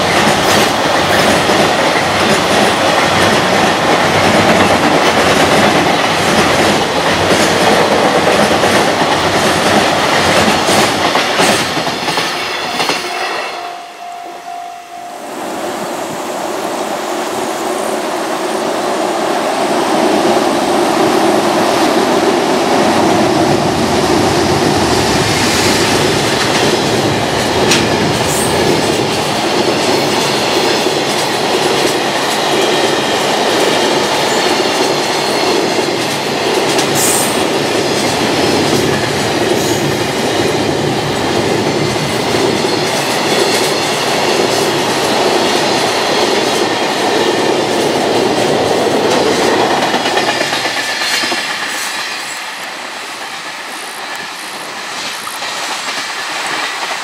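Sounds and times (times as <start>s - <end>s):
freight train wheels clattering: 0.0s - 13.2s, 20.6s - 57.0s.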